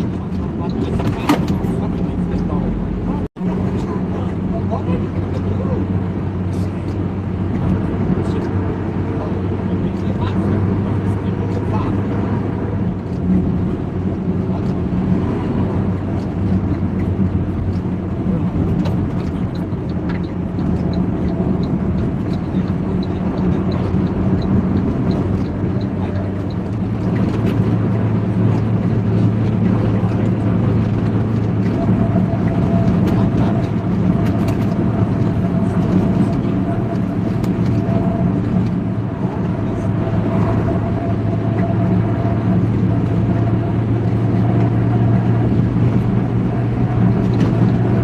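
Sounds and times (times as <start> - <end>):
traffic rumble: 0.0 - 48.0
vehicle engine drone: 0.0 - 48.0.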